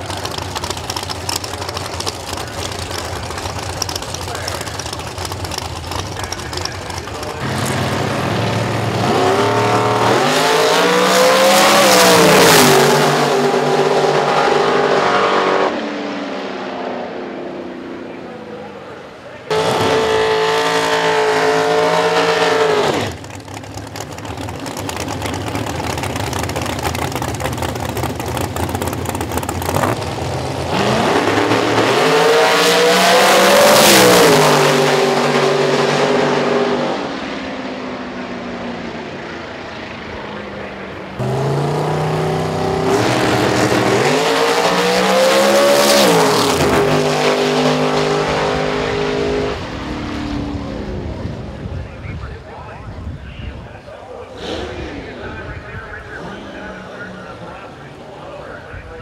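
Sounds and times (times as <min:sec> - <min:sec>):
drag race cars passing: 0:00.0 - 0:59.0.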